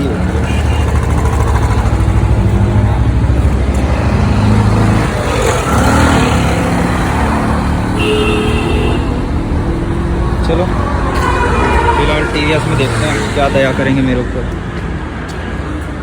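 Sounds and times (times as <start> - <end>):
engine hum: 0.0 - 16.0
street traffic: 0.0 - 16.0.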